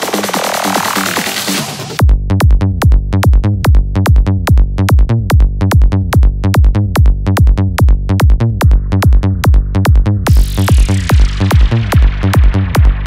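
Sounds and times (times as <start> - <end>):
electronic kick drum: 0.0 - 13.0
rolling bassline: 0.0 - 13.0.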